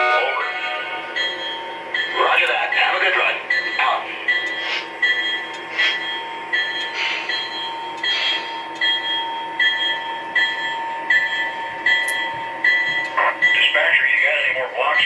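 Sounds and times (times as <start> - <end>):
locomotive bell ringing: 0.0 - 15.0
model locomotive running hum: 0.0 - 15.0.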